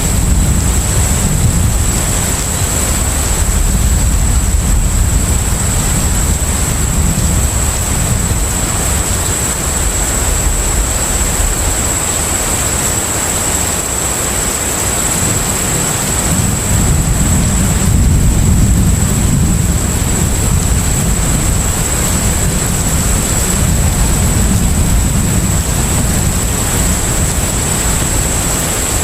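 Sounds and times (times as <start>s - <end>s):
ship rumble and water wash: 0.0s - 29.0s.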